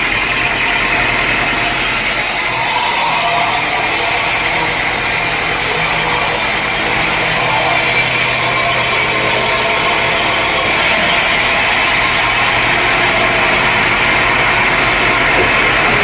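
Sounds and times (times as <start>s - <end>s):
low motor hum: 0.0s - 16.0s
sawmill machinery running: 0.0s - 16.0s.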